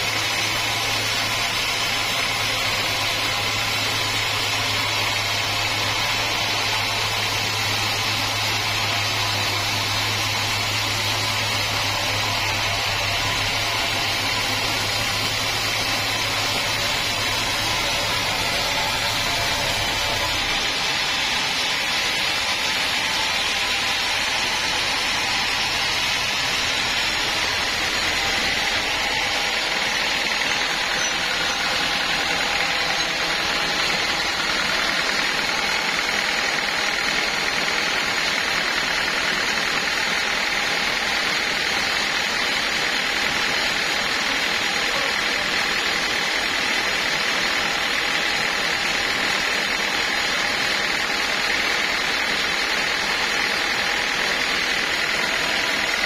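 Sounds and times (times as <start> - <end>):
band sawmill running: 0.0 - 56.0.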